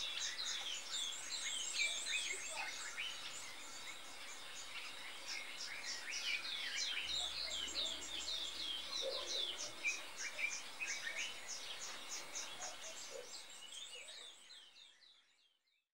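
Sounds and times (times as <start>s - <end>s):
wild birds chirping: 0.0s - 15.8s.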